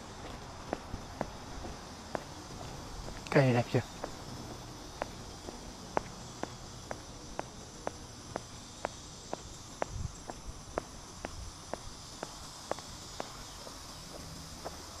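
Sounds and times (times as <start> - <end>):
cicadas droning: 0.0 - 15.0
footsteps on stone paving: 0.0 - 15.0.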